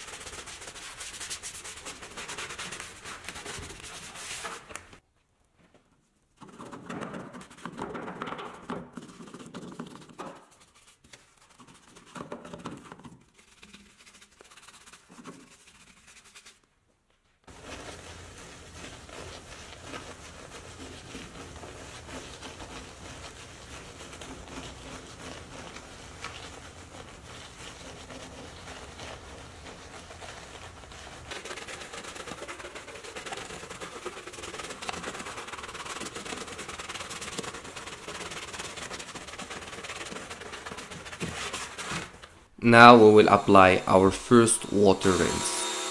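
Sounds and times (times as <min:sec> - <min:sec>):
brush scrubbing through foam: 0:00.0 - 0:05.0, 0:09.0 - 0:16.7, 0:17.5 - 0:42.2
fingers rubbing wash foam: 0:00.0 - 0:05.0, 0:08.6 - 0:16.7, 0:17.5 - 0:42.2.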